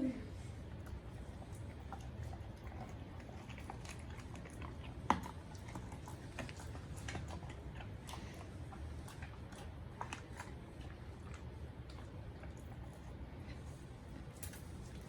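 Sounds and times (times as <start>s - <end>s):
dog chewing meat and bone: 0.5s - 15.0s.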